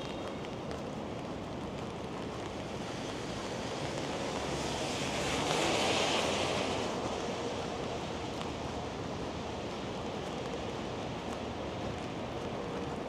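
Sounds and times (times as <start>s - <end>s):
street noise: 0.0s - 13.0s
tyres hissing on wet street: 0.0s - 13.0s.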